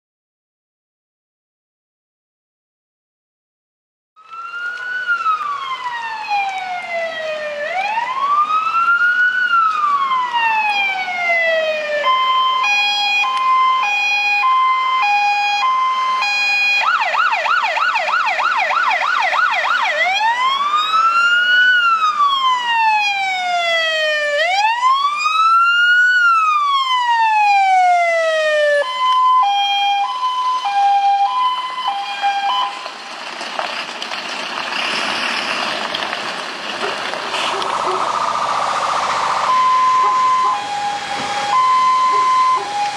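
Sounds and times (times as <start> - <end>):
fire engine electronic siren: 4.2 - 33.2, 36.7 - 42.9.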